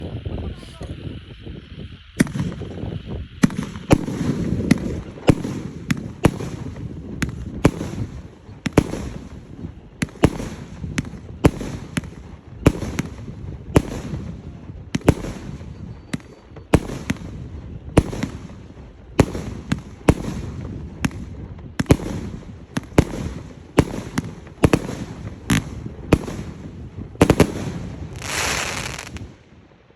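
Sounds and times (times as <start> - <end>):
fireworks rumble and crackle: 0.0 - 29.9
fireworks bangs: 2.1 - 29.5.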